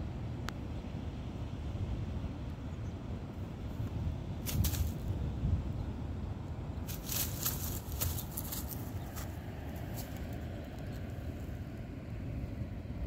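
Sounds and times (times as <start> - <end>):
wind noise on microphone: 0.0 - 11.4.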